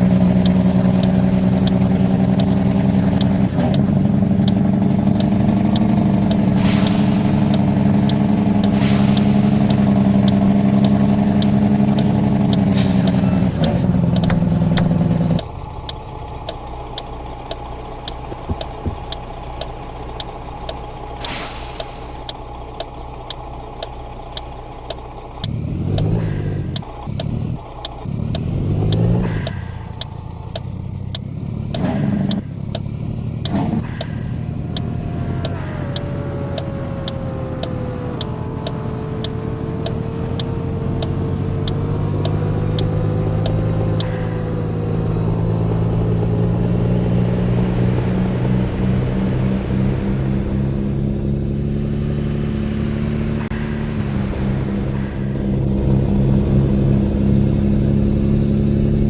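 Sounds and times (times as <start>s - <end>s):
truck engine running and revving: 0.0s - 59.0s.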